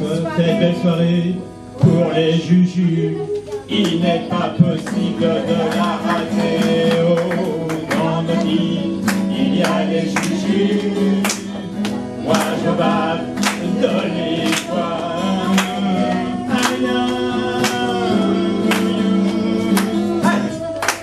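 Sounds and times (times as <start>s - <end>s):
group singing: 0.0s - 21.0s.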